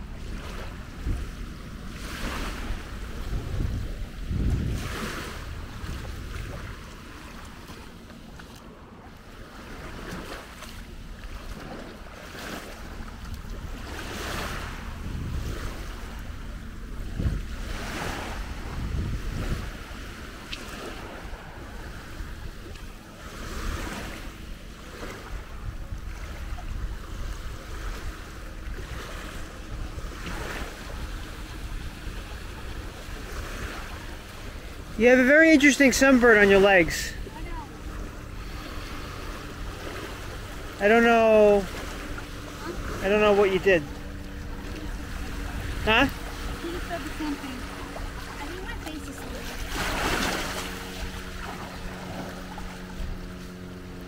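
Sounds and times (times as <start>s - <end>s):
wind buffeting microphone: 0.0s - 8.0s, 9.7s - 54.0s
small waves lapping: 0.0s - 54.0s.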